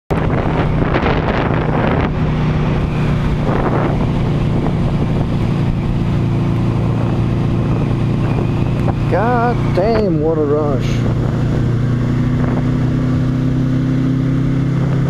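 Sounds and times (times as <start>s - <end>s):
motorcycle engine running: 0.1s - 15.0s
wind buffeting microphone: 0.1s - 15.0s.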